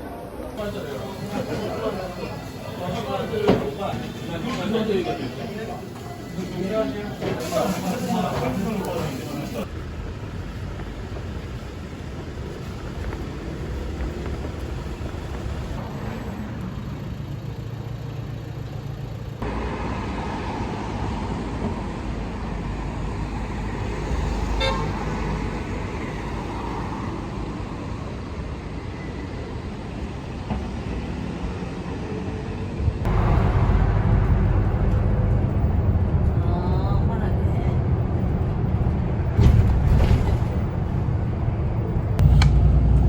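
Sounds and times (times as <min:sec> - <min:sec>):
road traffic noise: 0:00.0 - 0:43.0.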